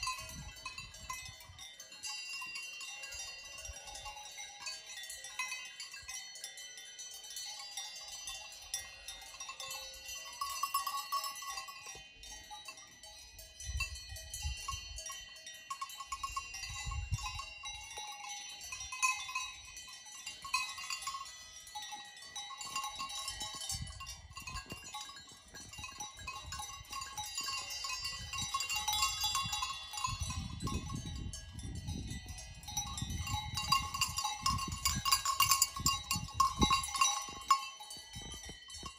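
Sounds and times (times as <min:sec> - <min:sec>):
animal bells clanking: 0:00.0 - 0:38.9.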